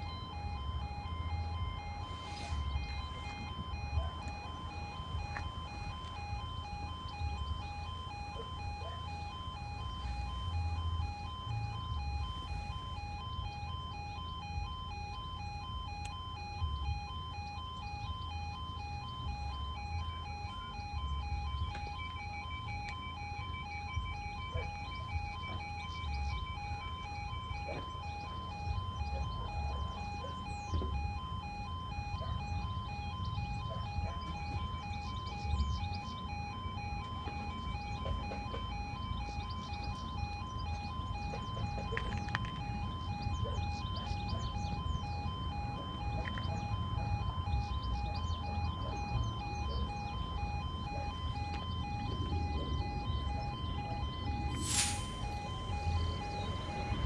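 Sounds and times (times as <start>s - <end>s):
higher alarm tone: 0.0s - 57.0s
pulsing electronic crossing alarm: 0.0s - 57.0s.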